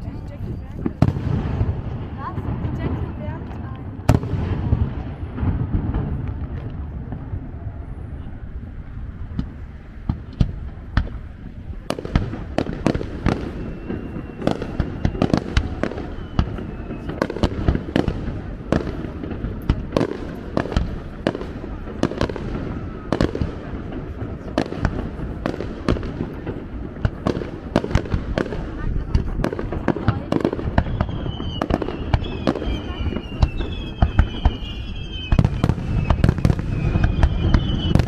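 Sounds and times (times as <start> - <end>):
fireworks cracks and bangs: 0.0 - 38.0.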